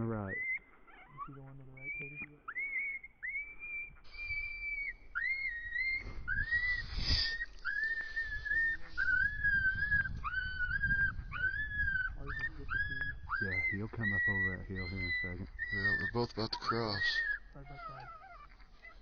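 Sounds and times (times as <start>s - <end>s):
electronic coyote whines: 0.0s - 19.0s.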